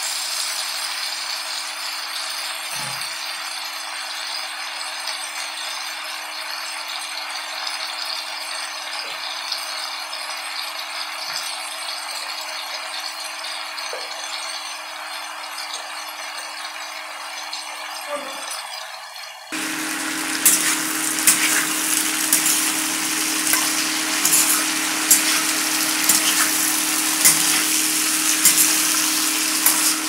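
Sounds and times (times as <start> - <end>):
potatoes sizzling in oil: 0.0 - 18.5, 19.5 - 30.0.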